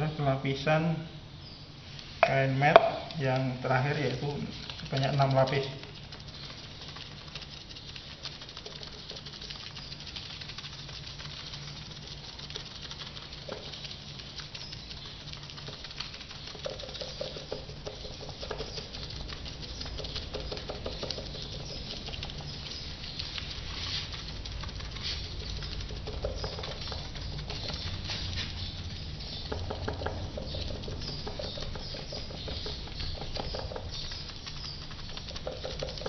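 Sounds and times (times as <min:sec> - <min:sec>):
steady low hum: 0:00.0 - 0:36.0
paint brushes dabbing resin: 0:01.8 - 0:36.0.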